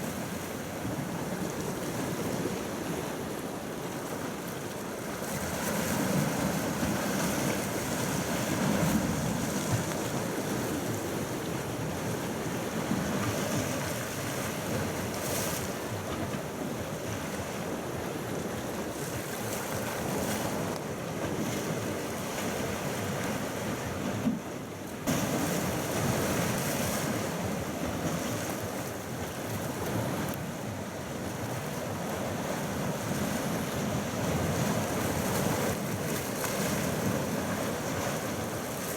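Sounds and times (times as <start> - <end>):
small waves washing on shore: 0.0 - 38.9.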